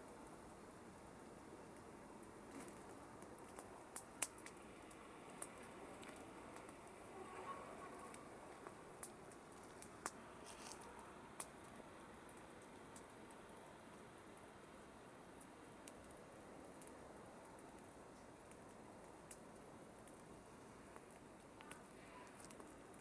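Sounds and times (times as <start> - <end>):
campfire pops and snaps: 0.0 - 7.2, 7.8 - 14.6, 15.3 - 23.0
faint steady hiss: 0.0 - 23.0.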